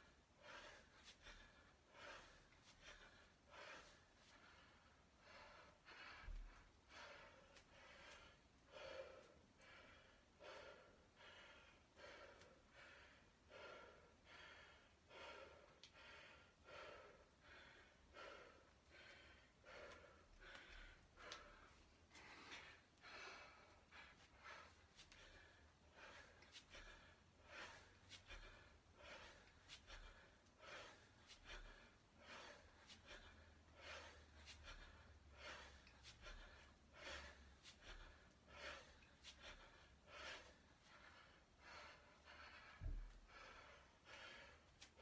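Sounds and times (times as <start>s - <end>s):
man breathing hard: 0.0s - 45.0s.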